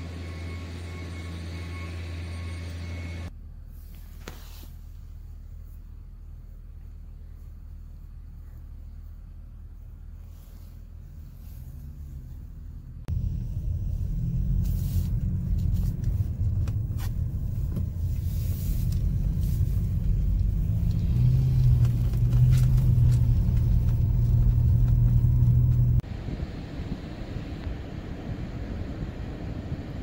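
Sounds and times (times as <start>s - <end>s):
engine and tyre rumble: 0.0s - 30.0s
engine hum: 0.0s - 30.0s.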